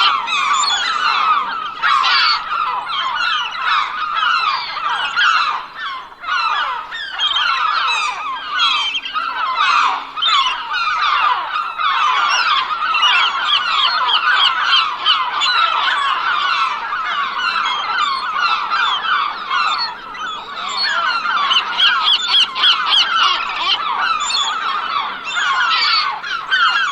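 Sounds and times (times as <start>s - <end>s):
gulls calling: 0.0s - 26.9s.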